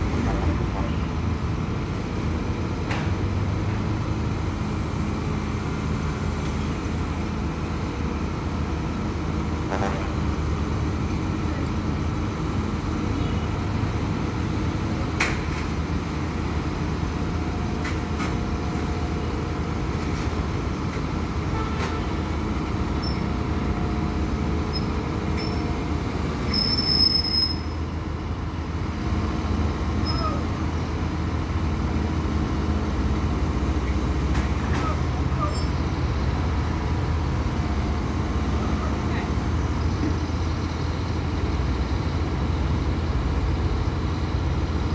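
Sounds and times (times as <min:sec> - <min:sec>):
excavator diesel engines: 0:00.0 - 0:44.9.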